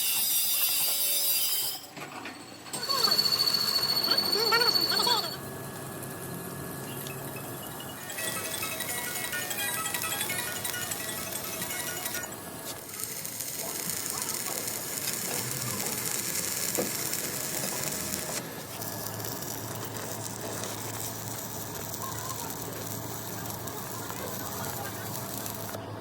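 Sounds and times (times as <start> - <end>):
crackling hiss of metalworking: 0.0 - 3.1, 4.4 - 26.0.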